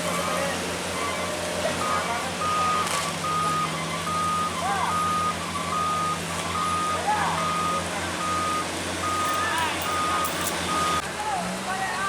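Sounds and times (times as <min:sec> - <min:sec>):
truck reversing alarm beeping: 0:00.0 - 0:11.0
diesel engine running: 0:00.0 - 0:12.0
voices calling out: 0:00.0 - 0:12.0.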